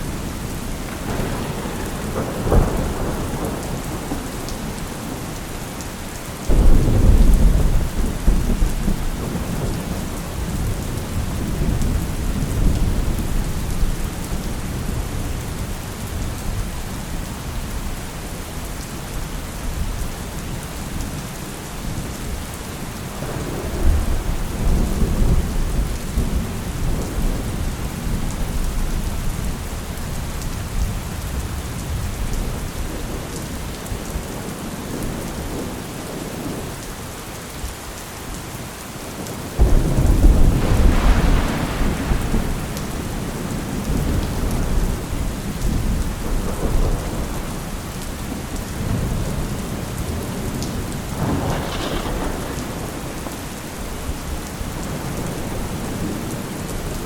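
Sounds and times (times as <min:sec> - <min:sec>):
thunder rumbling: 0:00.0 - 0:17.0, 0:23.1 - 0:36.6, 0:39.5 - 0:57.0
steady rain: 0:00.0 - 0:57.0.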